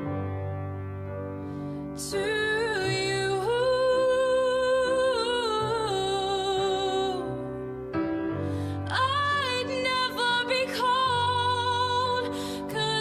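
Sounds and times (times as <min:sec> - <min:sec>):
person singing ballad: 0:01.9 - 0:13.0.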